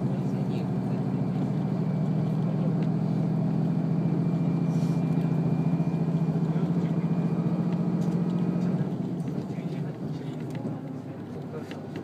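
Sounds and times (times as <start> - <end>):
railcar diesel engine droning: 0.0 - 10.2.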